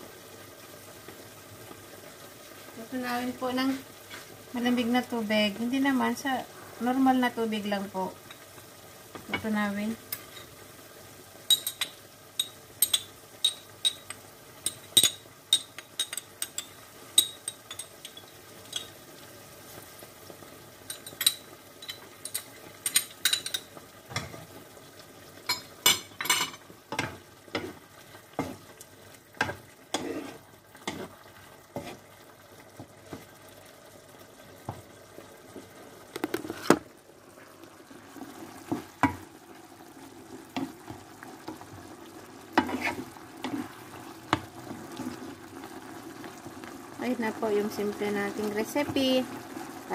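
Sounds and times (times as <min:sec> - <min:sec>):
pan sizzling: 0:00.0 - 0:49.9.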